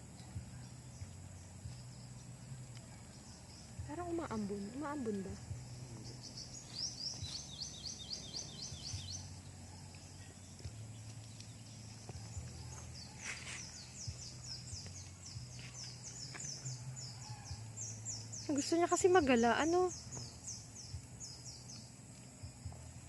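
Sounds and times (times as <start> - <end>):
bird chirping: 0.0 - 22.6.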